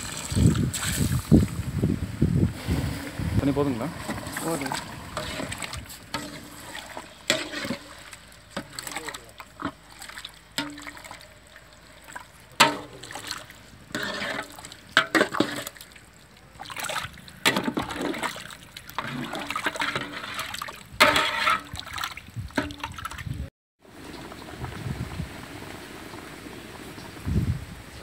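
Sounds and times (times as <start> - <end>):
thick gravy sloshing: 2.4 - 27.2.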